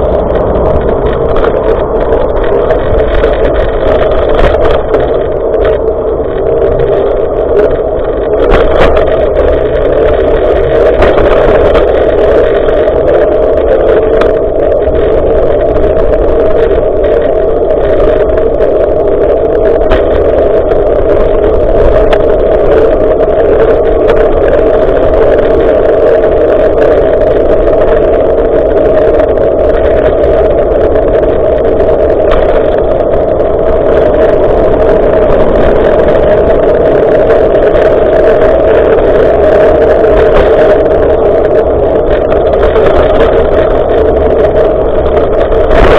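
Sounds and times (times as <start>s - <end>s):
wind rumble on microphone: 0.0s - 45.9s.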